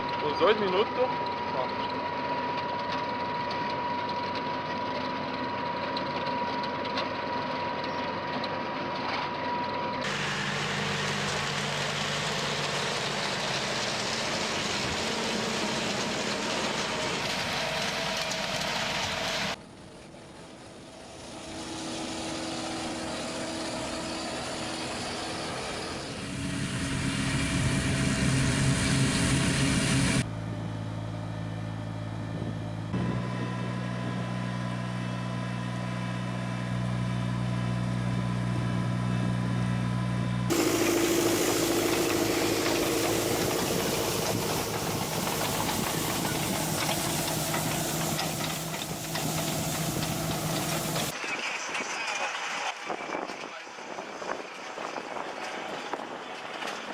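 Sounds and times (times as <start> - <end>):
farm machinery diesel engines: 0.0 - 56.9.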